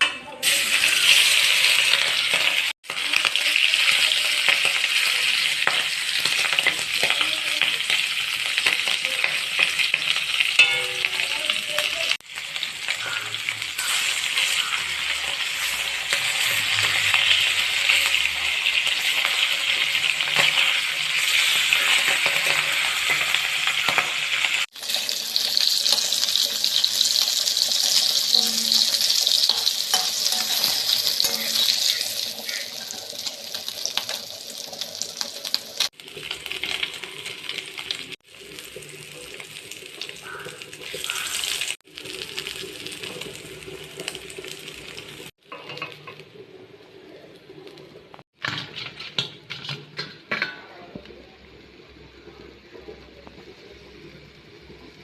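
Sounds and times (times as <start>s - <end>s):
fish frying in hot oil: 0.4s - 50.4s.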